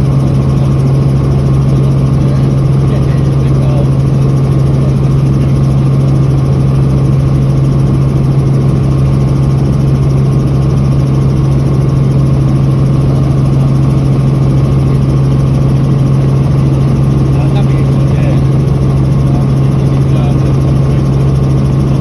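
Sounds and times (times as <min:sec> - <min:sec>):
helicopter engine and rotor drone: 0:00.0 - 0:22.0.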